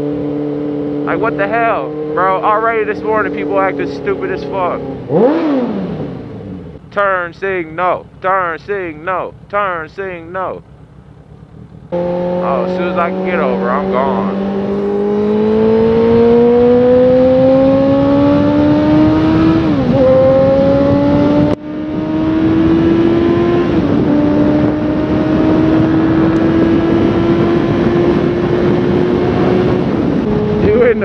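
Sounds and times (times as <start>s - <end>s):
motorcycle engine accelerating: 0.0s - 31.0s
wind and road noise: 0.0s - 31.0s.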